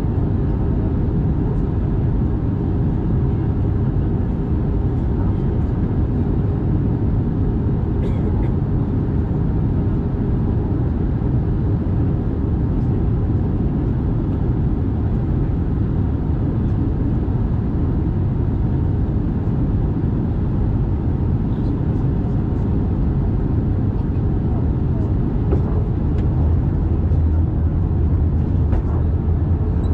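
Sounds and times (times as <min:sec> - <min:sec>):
airplane cabin engine roar: 0:00.0 - 0:29.9.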